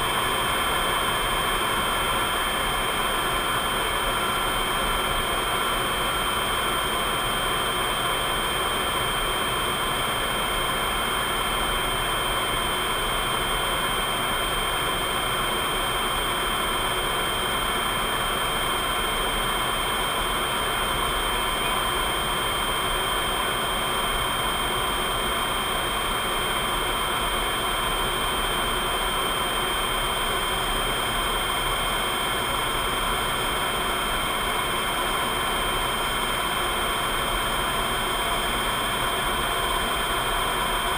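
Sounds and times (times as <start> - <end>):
faint steady whines: 0.0 - 40.9.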